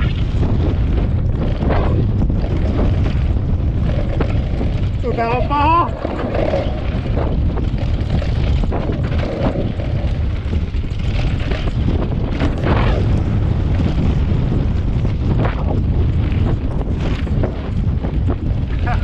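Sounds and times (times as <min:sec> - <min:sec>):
bike rattling and knocking: 0:00.0 - 0:19.0
wind buffeting microphone: 0:00.0 - 0:19.0
tyres rolling over gravel: 0:00.3 - 0:19.0.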